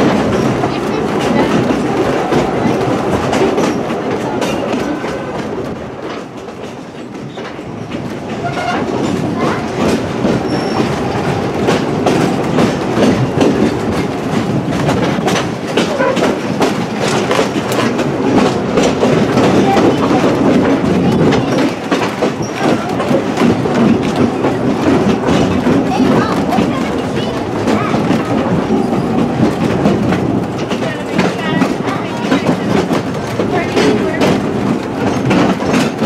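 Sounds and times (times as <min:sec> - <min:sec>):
clicks over rail joints: 0:00.0 - 0:36.0
wheel on rail rumble: 0:00.0 - 0:36.0.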